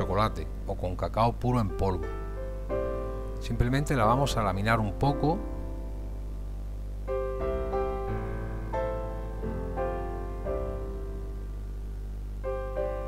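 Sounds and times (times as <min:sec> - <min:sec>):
gentle instrumental music: 0:00.0 - 0:13.0.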